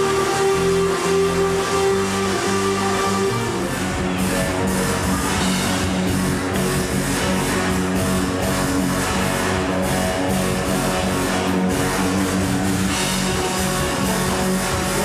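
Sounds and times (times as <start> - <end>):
drums: 0.0 - 15.0
electric guitar: 0.0 - 15.0
rock music: 0.0 - 15.0.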